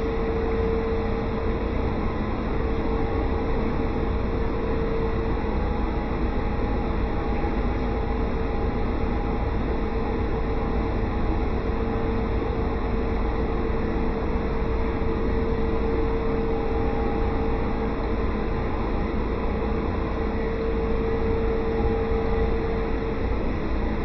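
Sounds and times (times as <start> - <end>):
pool machinery humming: 0.0 - 24.0.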